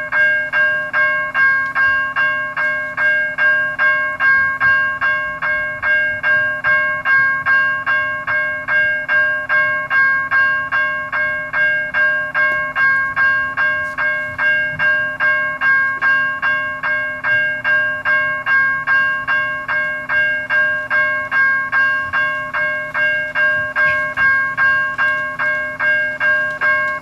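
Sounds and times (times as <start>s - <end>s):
railroad crossing bell ringing: 0.0s - 27.0s.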